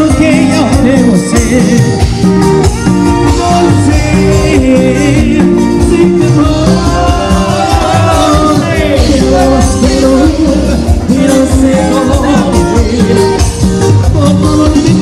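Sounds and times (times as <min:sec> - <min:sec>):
latin dance music with vocals: 0:00.0 - 0:15.0.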